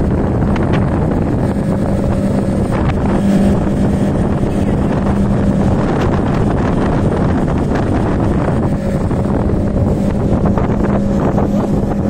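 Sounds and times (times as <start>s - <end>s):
speedboat motor humming: 0.0s - 12.0s
wind buffeting microphone: 0.0s - 12.0s.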